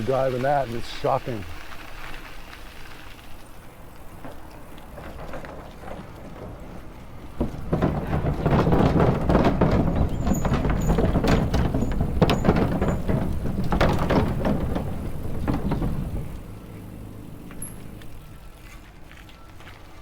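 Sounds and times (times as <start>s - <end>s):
low rumble of riding: 0.0s - 20.0s
bike frame rattling and clicking: 1.7s - 19.8s.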